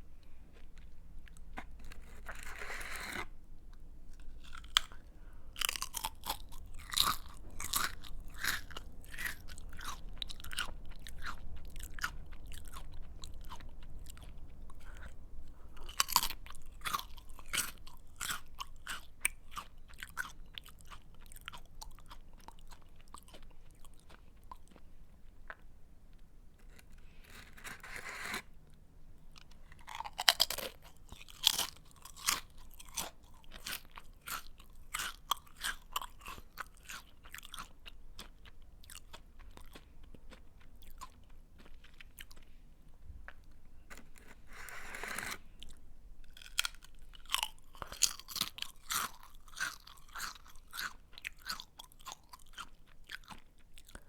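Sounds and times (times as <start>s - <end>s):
person chewing crunchy snack: 0.2s - 54.0s.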